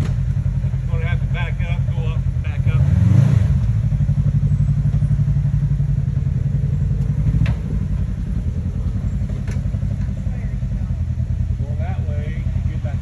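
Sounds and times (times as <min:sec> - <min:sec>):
vehicle engine running at low speed: 0:00.0 - 0:13.0.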